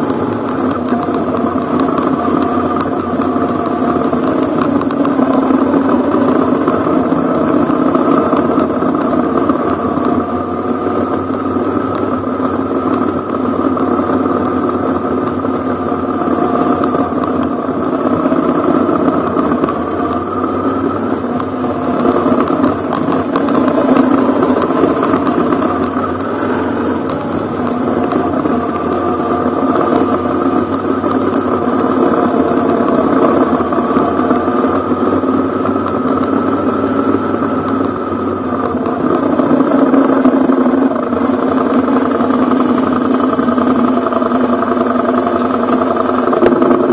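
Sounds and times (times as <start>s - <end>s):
motorcycle engine running: 0.0s - 46.9s
rattle from rough road: 0.0s - 46.9s.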